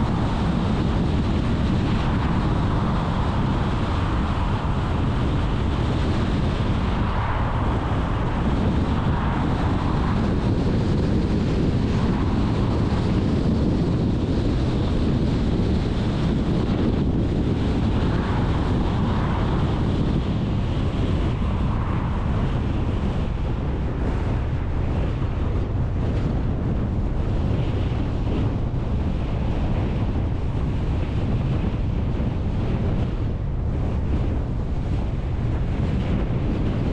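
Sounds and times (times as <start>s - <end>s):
wind noise on microphone: 0.0s - 36.9s.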